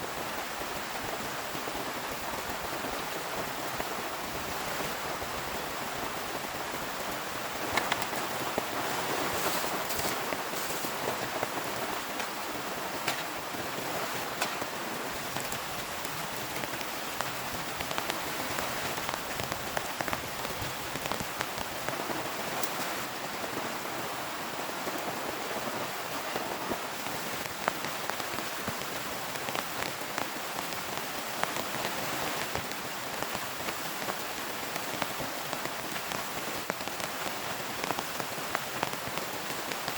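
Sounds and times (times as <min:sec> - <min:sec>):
heavy rain falling: 0:00.0 - 0:39.9
raindrops striking a surface: 0:00.0 - 0:39.9.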